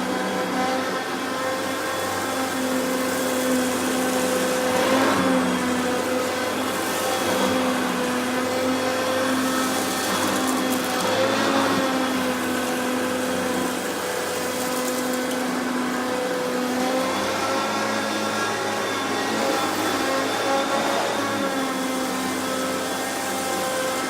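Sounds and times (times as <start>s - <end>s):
vacuum cleaner running on rug: 0.0s - 24.0s.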